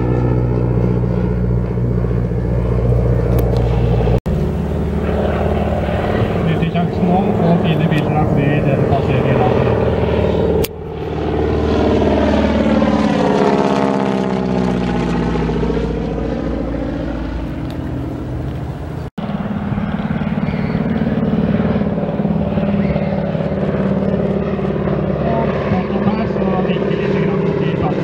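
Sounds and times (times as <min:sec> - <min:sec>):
propeller plane engine droning overhead: 0:00.0 - 0:28.0.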